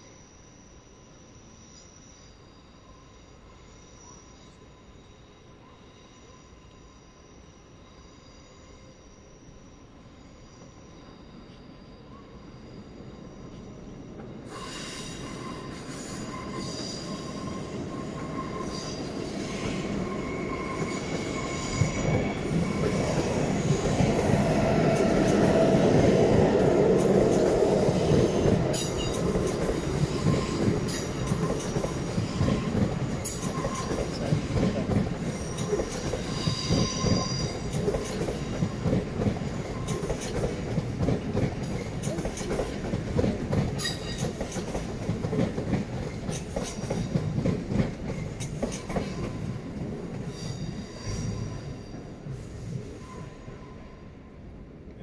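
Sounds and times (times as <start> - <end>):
train wheels squealing: 0.0 - 55.0.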